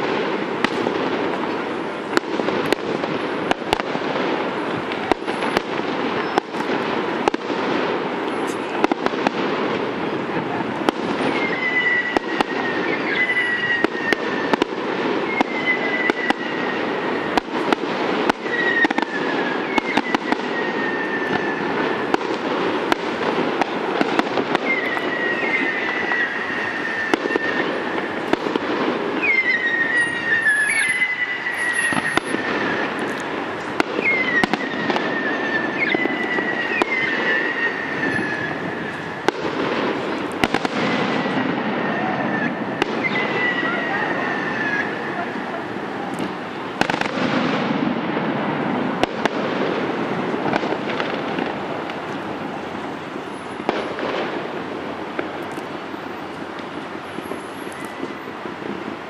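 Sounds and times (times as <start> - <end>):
firework bangs and crackles: 0.0 - 59.0
firework whistles: 0.0 - 59.0.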